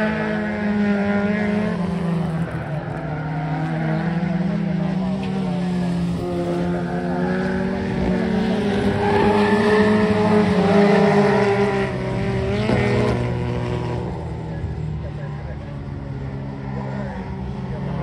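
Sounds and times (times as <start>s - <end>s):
car engines racing: 0.0s - 18.0s.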